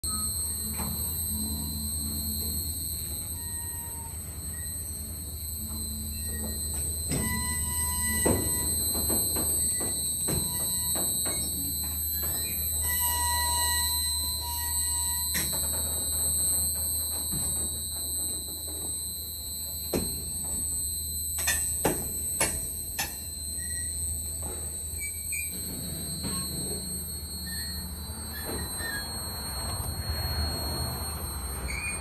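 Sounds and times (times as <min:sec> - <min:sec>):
wheel squeal: 0:00.0 - 0:32.0.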